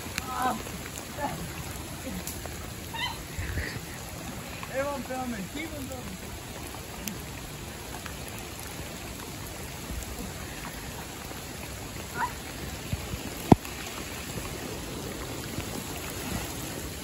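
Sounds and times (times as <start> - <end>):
fast-flowing creek rushing: 0.0 - 17.0.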